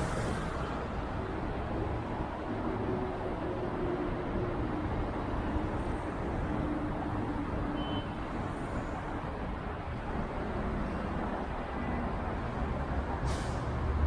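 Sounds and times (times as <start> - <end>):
engine hum: 0.0 - 14.0
passing cars rumble: 0.0 - 14.0.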